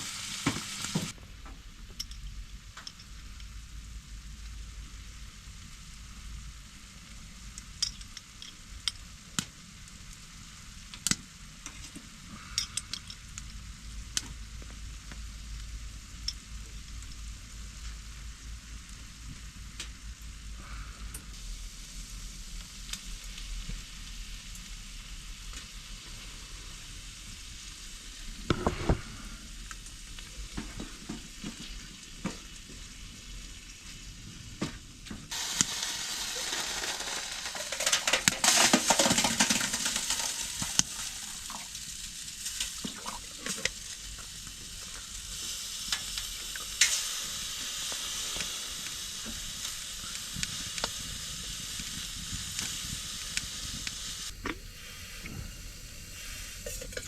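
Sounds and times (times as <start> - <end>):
food sizzling in a frying pan: 0.0 - 1.2, 2.2 - 34.5, 35.3 - 57.0.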